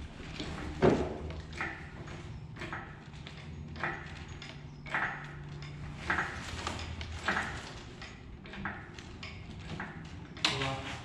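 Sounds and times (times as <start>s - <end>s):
hydraulic pump handle clanking: 0.5s - 10.7s.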